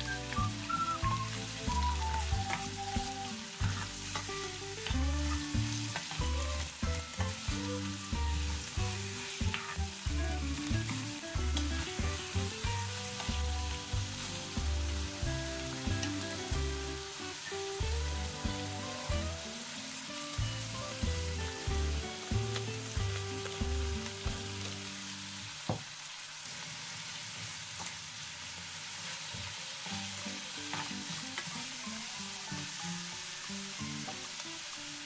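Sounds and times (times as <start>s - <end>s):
chicken and onion sizzling: 0.0s - 35.0s.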